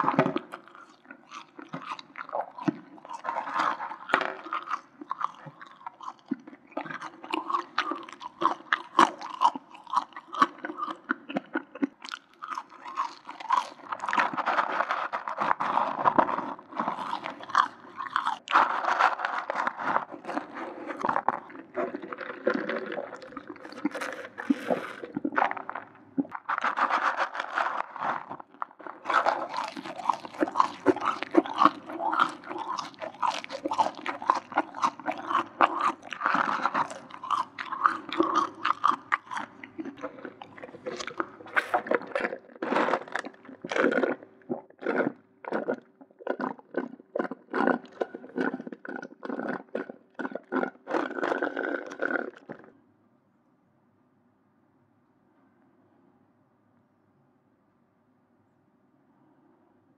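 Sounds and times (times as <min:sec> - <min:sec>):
chewing and crunching food: 0:00.0 - 0:52.8.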